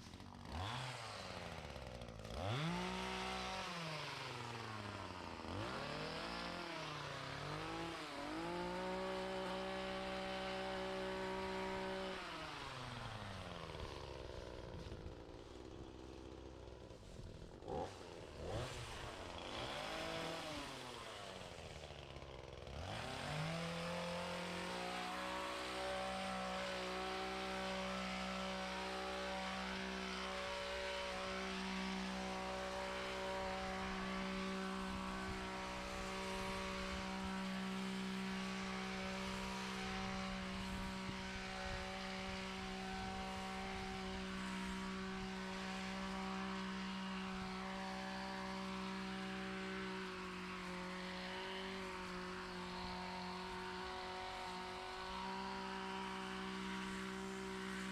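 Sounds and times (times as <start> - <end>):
small gas engine revving: 0.0 - 57.9.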